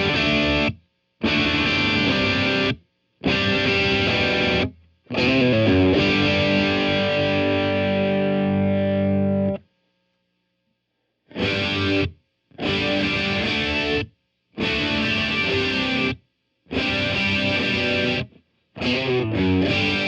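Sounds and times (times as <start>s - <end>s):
distorted electric guitar chords: 0.0s - 9.6s, 11.3s - 20.0s.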